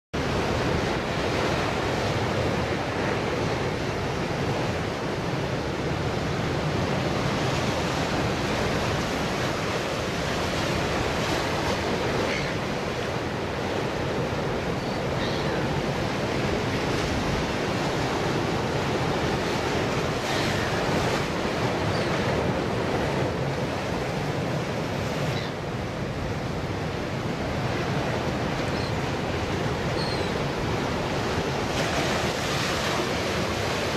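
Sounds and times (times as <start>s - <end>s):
ocean surf on rocks: 0.2s - 33.9s.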